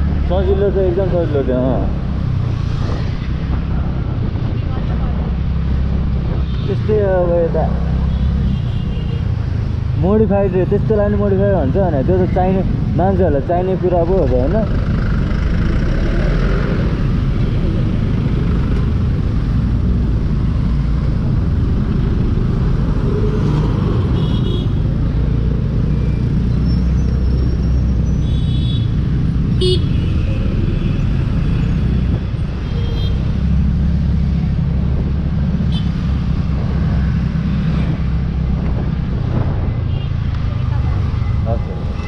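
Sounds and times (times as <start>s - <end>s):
city traffic noise: 0.0s - 42.0s.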